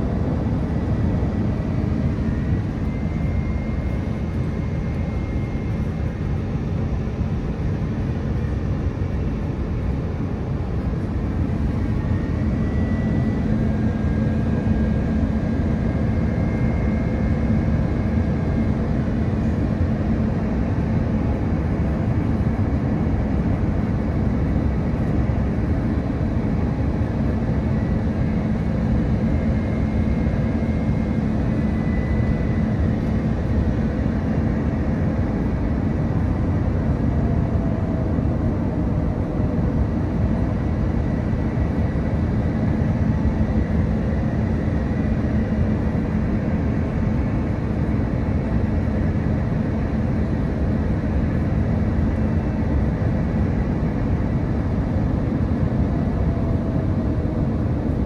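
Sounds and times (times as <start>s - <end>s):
airplane cabin engine noise: 0.0s - 58.0s.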